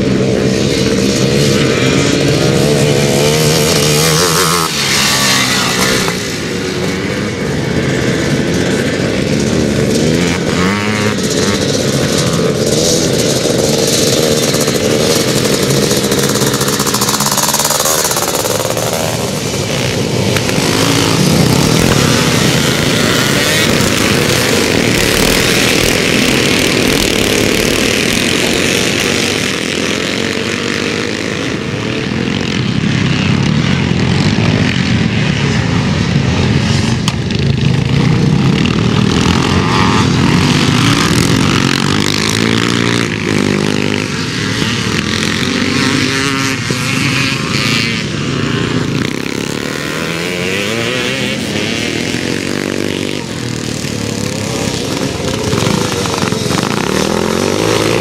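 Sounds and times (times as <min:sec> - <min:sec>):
motocross bikes racing past: 0:00.0 - 0:58.0.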